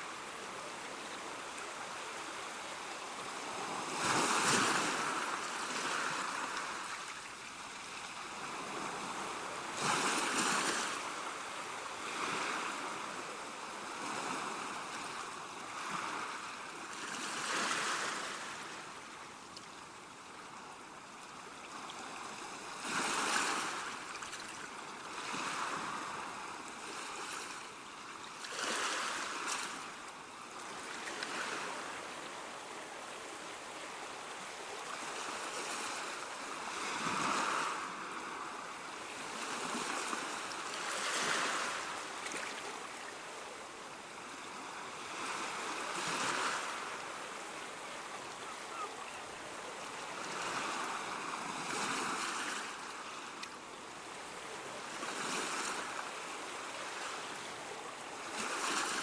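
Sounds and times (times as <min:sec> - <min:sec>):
ocean waves breaking: 0:00.0 - 0:18.9, 0:30.6 - 0:59.0.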